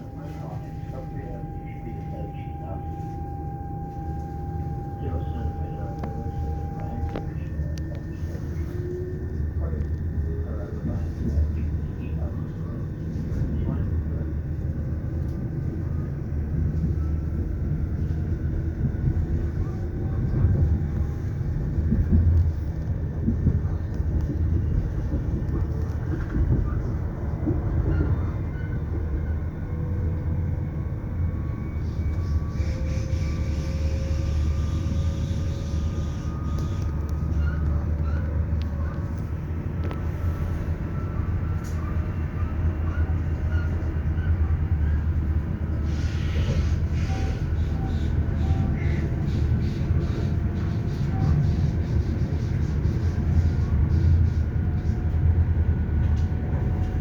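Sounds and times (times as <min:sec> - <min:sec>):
faint whining tones: 0:00.0 - 0:55.3
train wheels rumbling on rails: 0:00.0 - 0:57.0.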